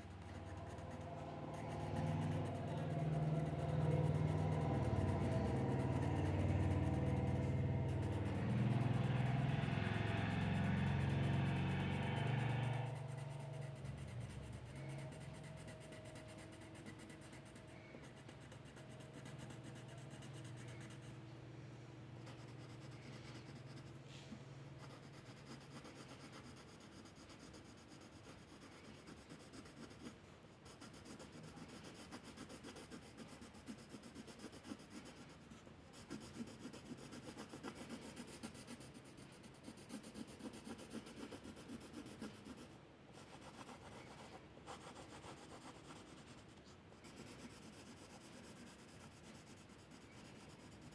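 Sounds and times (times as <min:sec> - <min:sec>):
drawing tool scratching paper: 0:00.0 - 0:21.2, 0:22.2 - 0:24.0, 0:24.8 - 0:50.9
low steady hum: 0:00.0 - 0:50.9.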